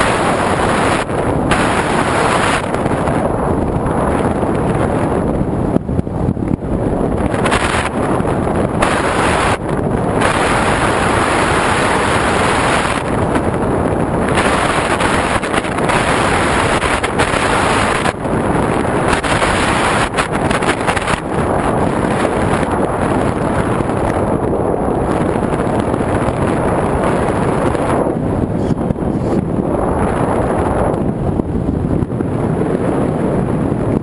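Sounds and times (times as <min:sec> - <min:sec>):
airflow roaring over microphone: 0:00.0 - 0:34.0.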